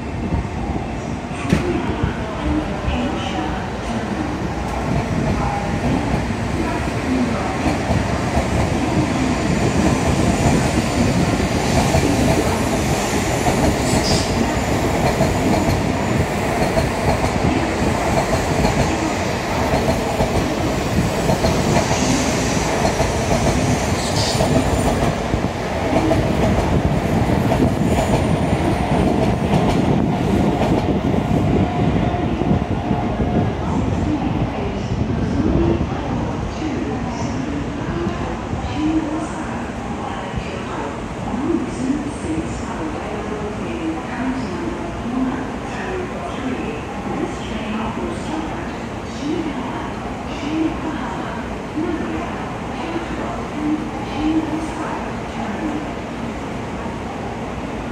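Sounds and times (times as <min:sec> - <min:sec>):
train carriages rumbling over rails: 0:00.0 - 0:56.3.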